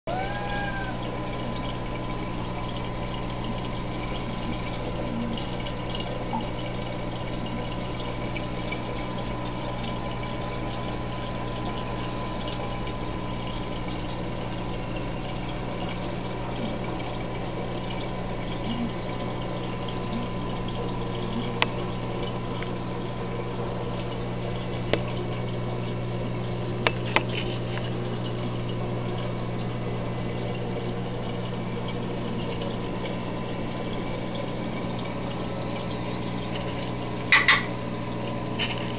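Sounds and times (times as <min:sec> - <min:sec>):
aquarium pump humming: 0:00.0 - 0:38.9.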